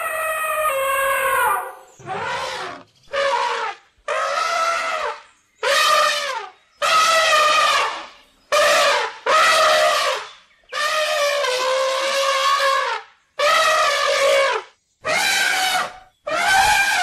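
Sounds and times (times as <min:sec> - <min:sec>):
elephant trumpeting: 0:00.0 - 0:17.0.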